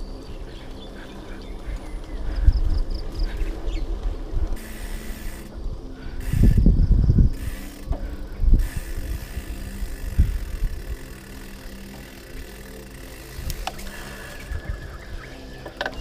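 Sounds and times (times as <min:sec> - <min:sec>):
bike rattling: 0:00.0 - 0:16.0
bike tyre rumble: 0:00.0 - 0:16.0.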